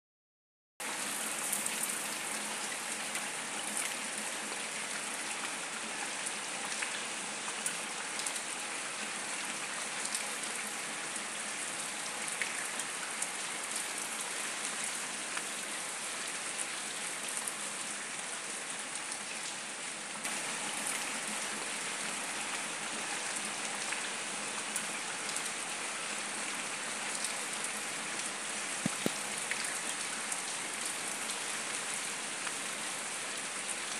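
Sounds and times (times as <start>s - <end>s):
rain on wet paving: 0.8s - 33.9s.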